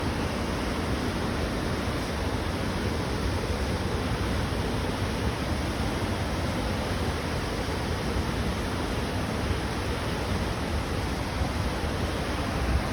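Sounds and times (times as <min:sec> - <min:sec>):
flooding stream rushing: 0:00.0 - 0:12.9.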